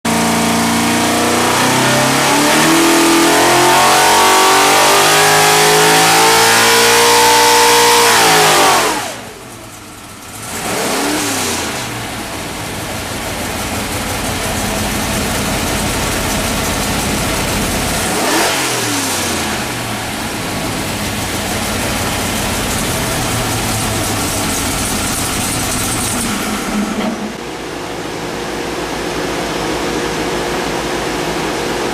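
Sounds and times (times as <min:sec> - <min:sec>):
car engine revving at full throttle: 0:00.1 - 0:31.9
engine throttle blips: 0:00.1 - 0:31.9.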